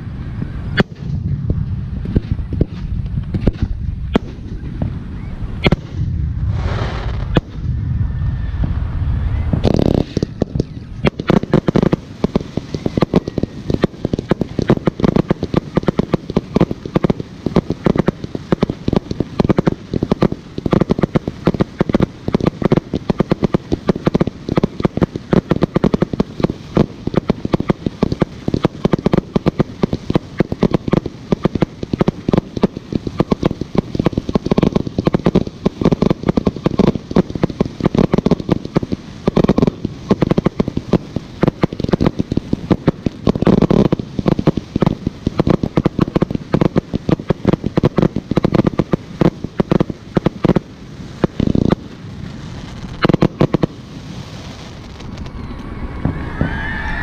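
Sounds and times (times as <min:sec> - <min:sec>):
fireworks hiss: 0:00.0 - 0:57.0
fireworks rumble and bangs: 0:00.0 - 0:57.0
rapid fireworks crackling: 0:00.0 - 0:57.0.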